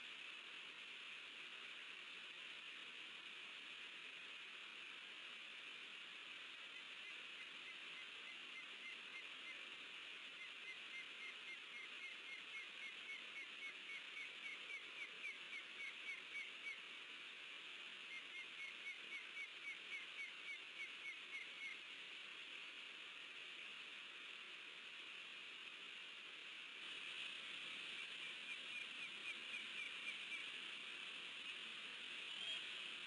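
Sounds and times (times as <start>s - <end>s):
steady hiss: 0.0s - 33.0s.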